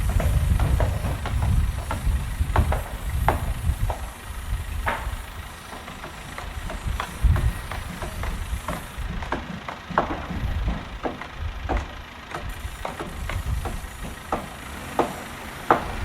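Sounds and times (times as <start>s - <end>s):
machinery rumble: 0.0s - 16.0s
sharp metallic knocks: 0.0s - 16.0s.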